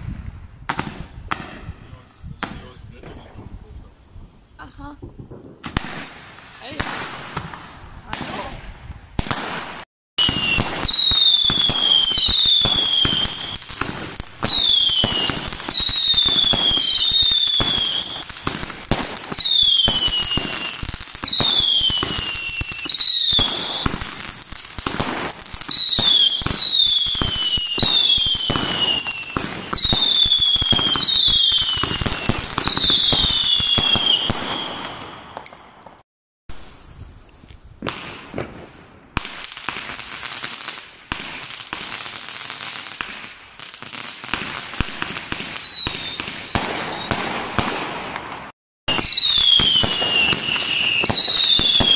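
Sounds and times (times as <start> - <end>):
whistling firework shots: 0.0 - 3.6, 5.3 - 8.6, 9.2 - 36.9, 37.8 - 51.9
firework bangs: 0.0 - 3.9, 4.9 - 36.8, 37.8 - 51.9
fireworks crackling: 0.0 - 51.9.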